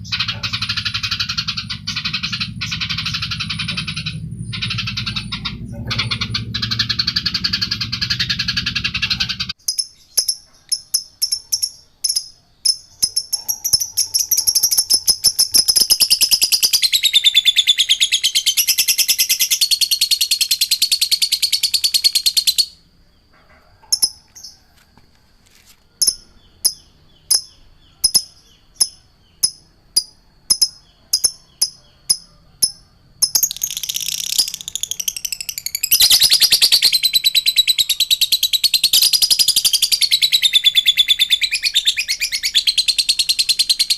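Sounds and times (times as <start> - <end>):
songbird chirping and trilling: 0.0 - 43.9.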